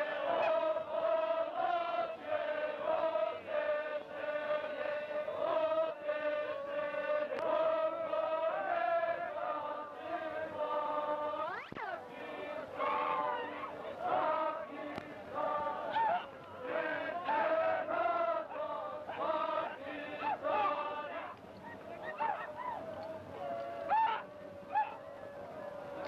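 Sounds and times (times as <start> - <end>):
voices chanting on one pitch: 0.0 - 26.0.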